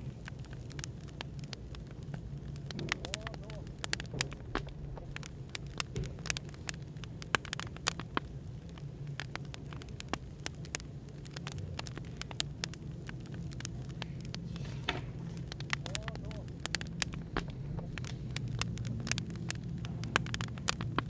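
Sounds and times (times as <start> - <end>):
cafe background hum: 0.0 - 21.0
firewood crackling and popping: 0.0 - 21.0.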